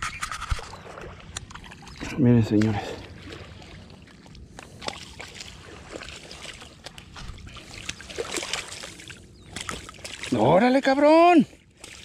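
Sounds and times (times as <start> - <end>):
water lapping at shore: 0.0 - 12.0.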